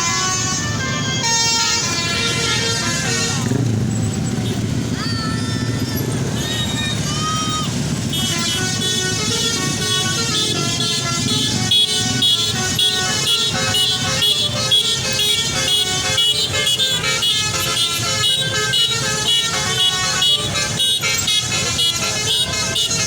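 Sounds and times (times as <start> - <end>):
bus horn playing a tune: 0.0 - 23.0
low traffic rumble: 0.0 - 23.0.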